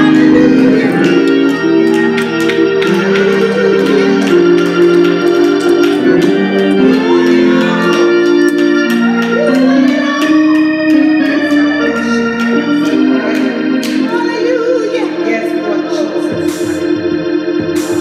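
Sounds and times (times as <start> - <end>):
organ playing chords: 0.0 - 18.0.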